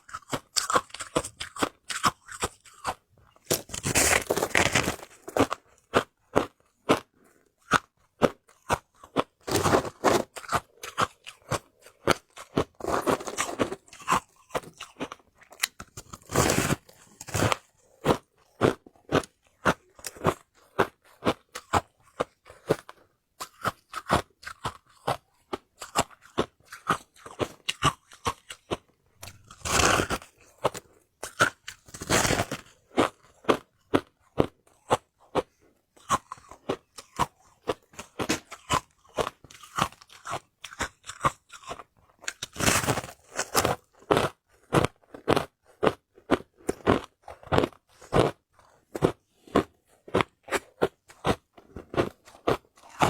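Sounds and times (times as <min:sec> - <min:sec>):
person chewing hard ice: 0:00.0 - 0:53.0.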